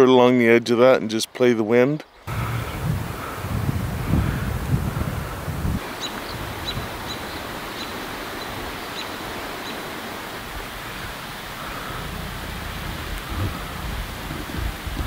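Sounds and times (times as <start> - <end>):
stormy weather hiss: 2.1 - 15.0.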